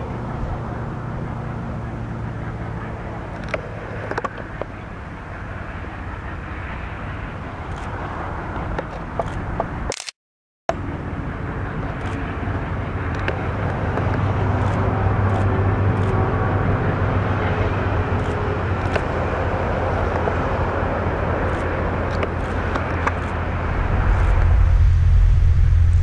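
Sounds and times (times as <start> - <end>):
diesel locomotive engine drone: 0.0 - 10.0, 10.7 - 26.0.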